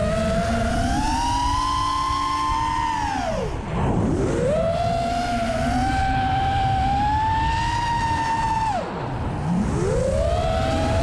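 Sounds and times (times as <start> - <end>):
quadcopter motors whining: 0.0 - 11.0
wind noise: 0.0 - 11.0.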